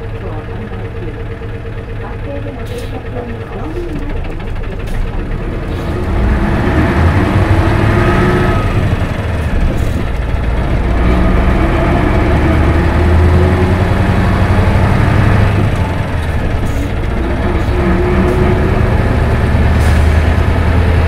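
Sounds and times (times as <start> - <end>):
bus diesel engine pulling away: 0.0 - 21.0.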